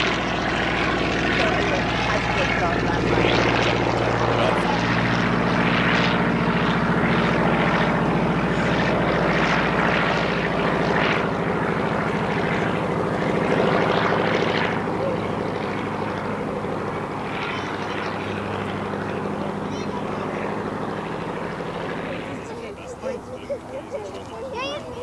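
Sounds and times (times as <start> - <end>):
aircraft piston engine running: 0.0 - 25.0.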